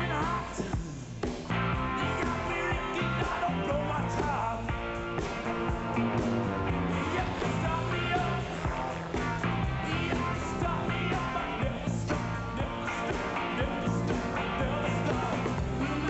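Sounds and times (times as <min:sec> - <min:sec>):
rock and roll music with guitar: 0:00.0 - 0:16.0.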